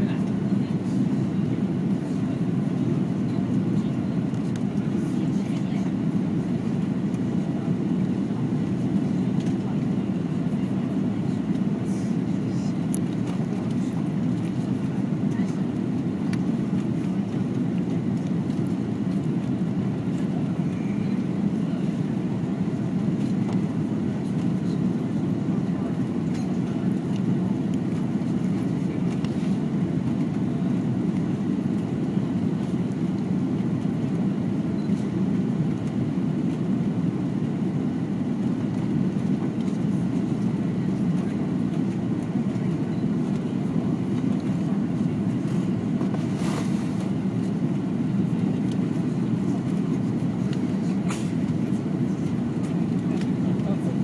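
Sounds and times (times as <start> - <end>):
airliner cabin engine rush: 0.0 - 54.0.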